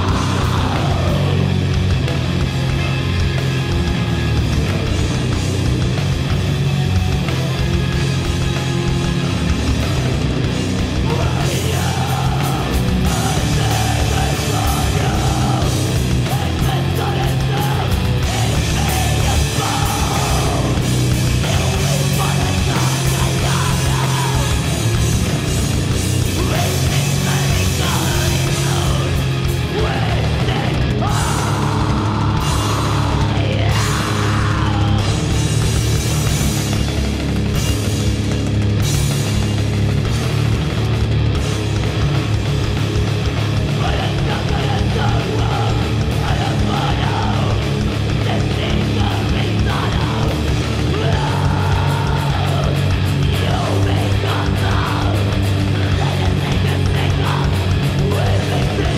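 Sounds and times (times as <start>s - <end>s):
heavy rock band playing: 0.0s - 58.9s.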